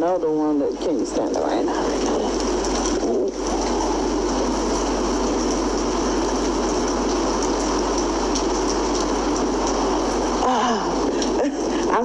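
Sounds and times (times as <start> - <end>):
heavy rain pouring: 0.0 - 12.0
faint ticks of raindrops: 0.7 - 12.0.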